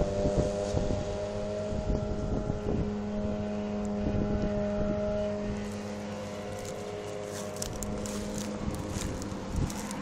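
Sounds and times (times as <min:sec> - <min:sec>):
tractor engine drone with whine: 0:00.0 - 0:10.0
wind buffeting microphone: 0:00.0 - 0:10.0.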